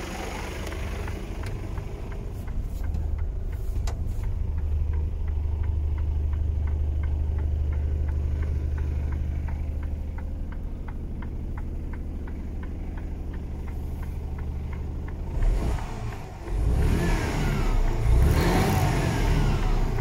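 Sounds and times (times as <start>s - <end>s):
diesel truck engine idling: 0.0s - 20.0s
light regular ticking: 0.0s - 20.0s.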